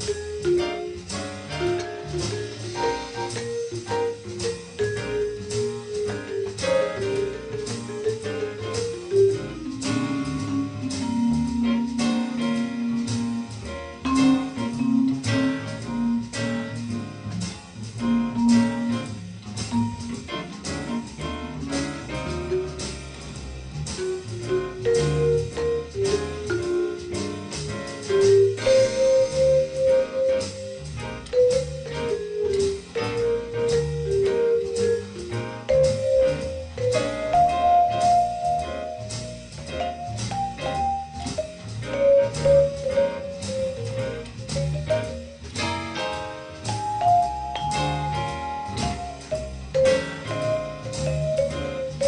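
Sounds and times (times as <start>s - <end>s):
lower accompaniment: 0.0s - 52.0s
vibraphone jazz line: 0.0s - 52.0s.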